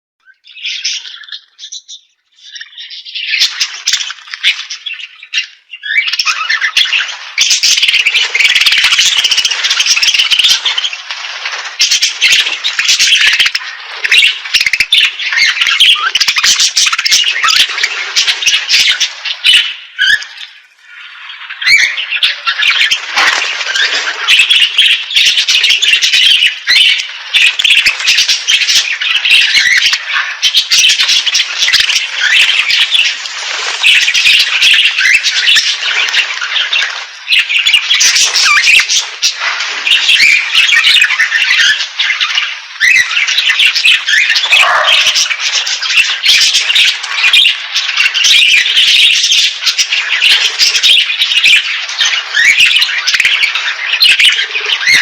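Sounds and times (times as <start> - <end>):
cage birds chirping and squawking: 0.2 - 55.0.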